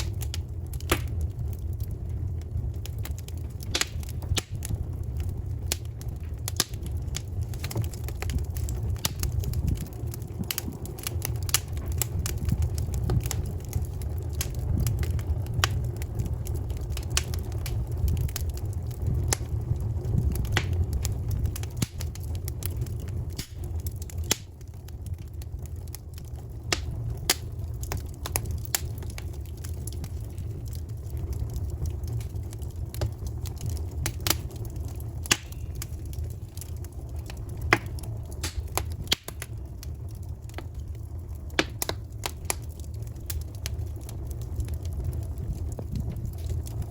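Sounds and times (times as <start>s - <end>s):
campfire crackling and popping: 0.0s - 46.9s
low fire rumble: 0.0s - 46.9s.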